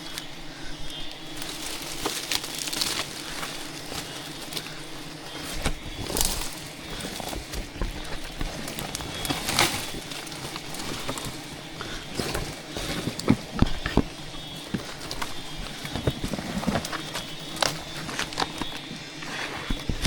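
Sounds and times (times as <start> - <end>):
steady rustling: 0.0 - 20.0.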